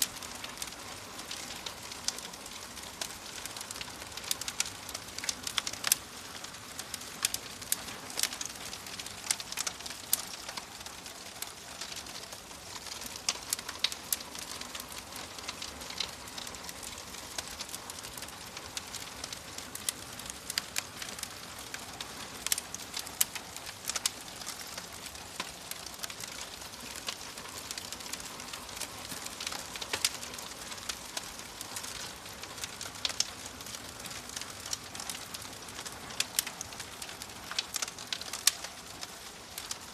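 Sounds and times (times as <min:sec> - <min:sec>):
wood fire hissing: 0:00.0 - 0:39.9
wood fire popping and snapping: 0:00.0 - 0:39.9.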